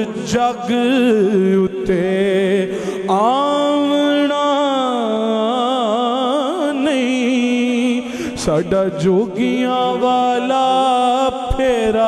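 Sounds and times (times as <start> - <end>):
man singing into microphone: 0.0 - 12.0.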